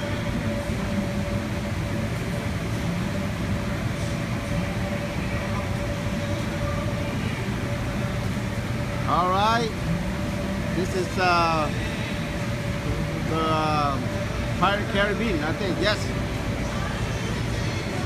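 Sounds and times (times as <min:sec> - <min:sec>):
air blowers rumbling drone: 0:00.0 - 0:18.0.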